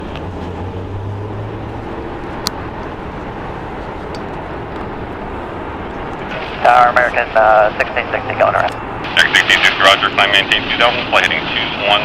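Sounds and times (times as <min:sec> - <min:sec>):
jet engines rumbling: 0:00.0 - 0:12.0
low hum: 0:00.0 - 0:12.0.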